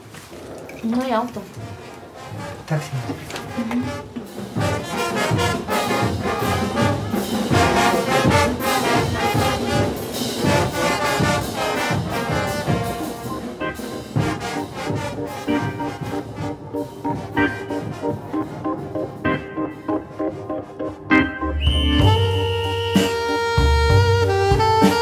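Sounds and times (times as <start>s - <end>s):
brass band playing: 0.9s - 25.0s
steady drum beat: 1.1s - 20.7s, 21.4s - 25.0s.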